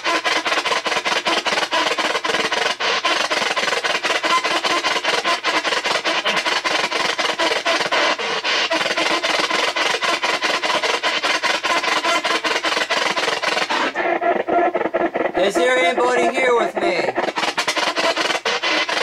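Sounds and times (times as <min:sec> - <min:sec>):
radio static chopped rapidly: 0:00.0 - 0:19.0.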